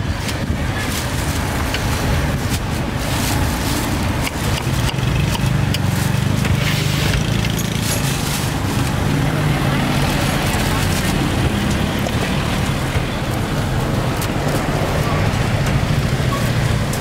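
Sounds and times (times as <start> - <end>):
street noise: 0.0 - 17.0
vehicle engine running: 0.1 - 17.0.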